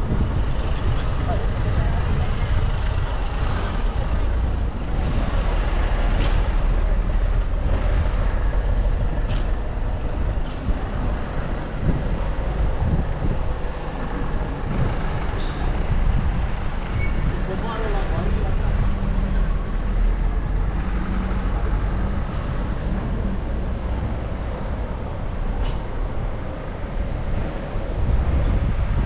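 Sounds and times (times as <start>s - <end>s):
motor traffic rumble: 0.0s - 29.0s.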